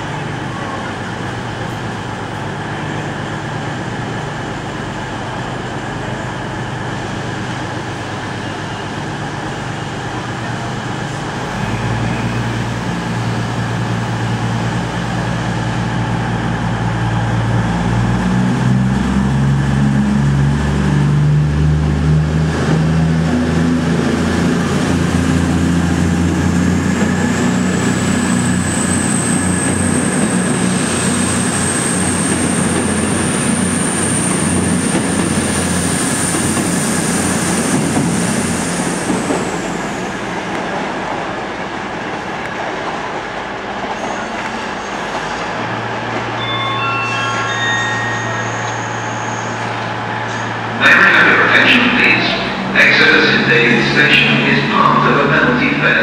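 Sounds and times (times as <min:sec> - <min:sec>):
diesel train engines: 0:00.0 - 0:56.0.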